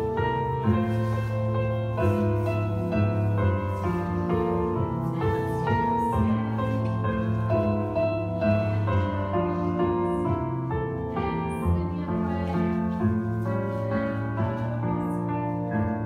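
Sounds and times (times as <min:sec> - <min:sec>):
instrumental piano music: 0:00.0 - 0:16.0.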